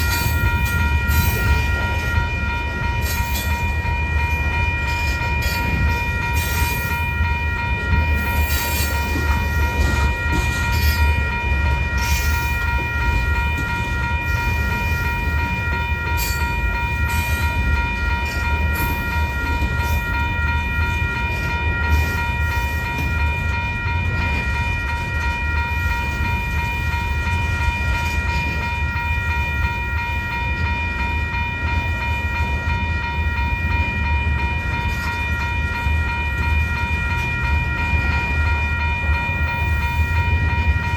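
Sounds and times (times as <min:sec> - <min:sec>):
freight train rumbling past: 0:00.0 - 0:40.9
high ringing tone: 0:00.0 - 0:40.9.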